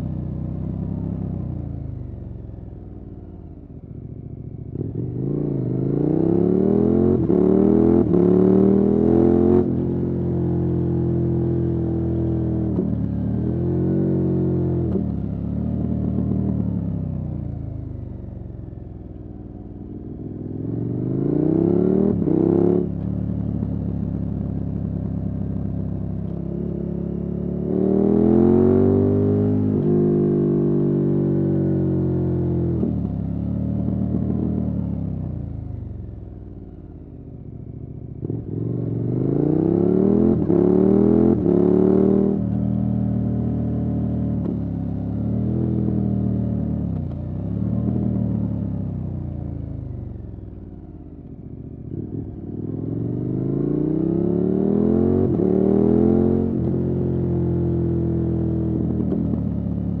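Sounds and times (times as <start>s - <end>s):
motorcycle engine accelerating: 3.4s - 60.0s.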